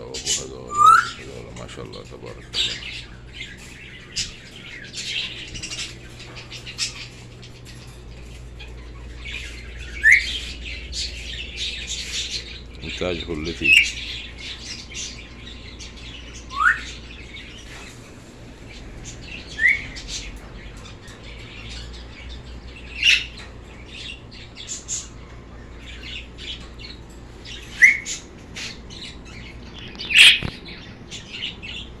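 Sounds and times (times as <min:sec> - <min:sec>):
bird squawks: 0:00.0 - 0:32.0
birds chirping and chattering: 0:00.0 - 0:32.0.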